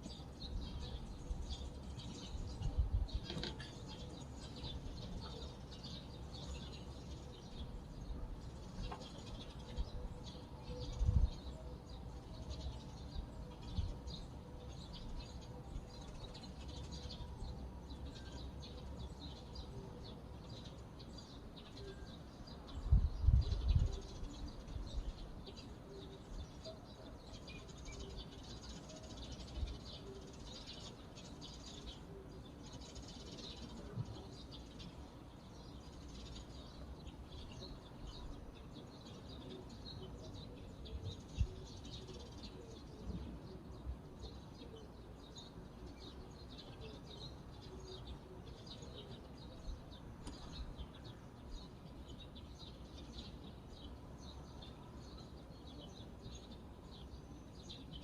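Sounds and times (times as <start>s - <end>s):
outdoor background noise: 0.0s - 58.0s
small songbirds chirping: 0.0s - 58.0s.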